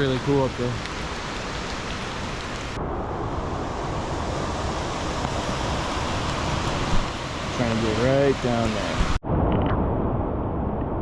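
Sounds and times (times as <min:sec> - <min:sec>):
heavy rain: 0:00.0 - 0:09.2
waterfall rushing: 0:00.0 - 0:09.2.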